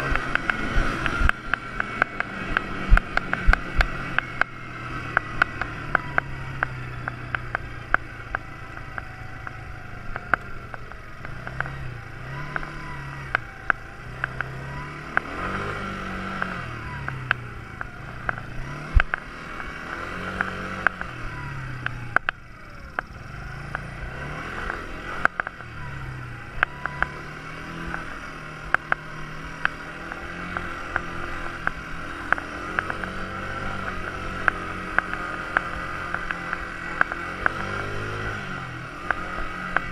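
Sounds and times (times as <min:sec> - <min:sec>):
sharp clicks and knocks: 0:00.0 - 0:11.8, 0:12.4 - 0:15.4, 0:16.3 - 0:21.2, 0:21.8 - 0:25.7, 0:26.5 - 0:39.9
quad bike engine revving: 0:00.0 - 0:39.9.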